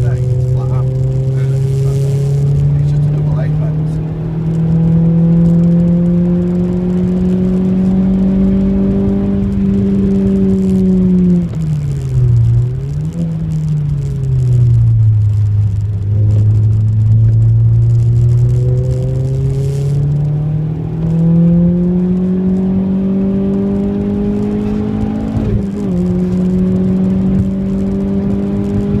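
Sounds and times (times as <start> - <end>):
car engine accelerating: 0.0 - 29.0
road and tyre noise: 0.0 - 29.0.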